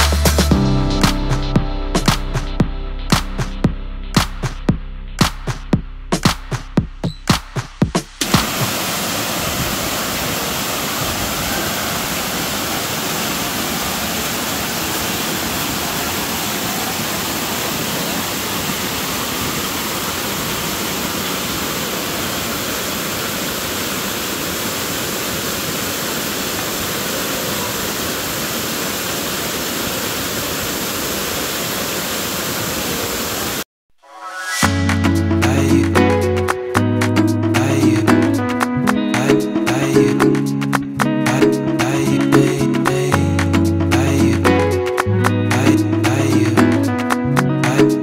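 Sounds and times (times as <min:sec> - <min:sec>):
falling water rushing: 0:07.4 - 0:33.6, 0:34.2 - 0:48.0.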